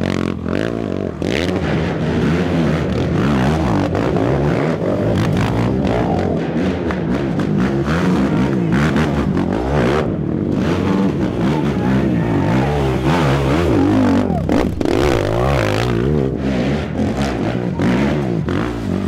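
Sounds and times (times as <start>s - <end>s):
quad engines revving hard: 0.0s - 19.0s.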